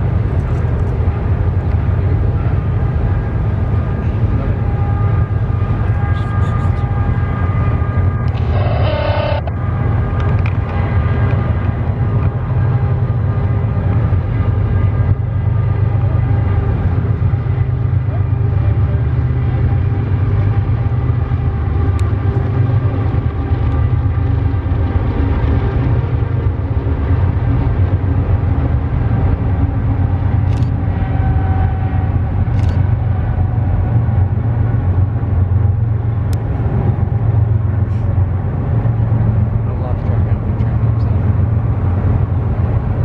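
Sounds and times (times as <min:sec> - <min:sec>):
freight train rumbling by: 0:00.0 - 0:43.0.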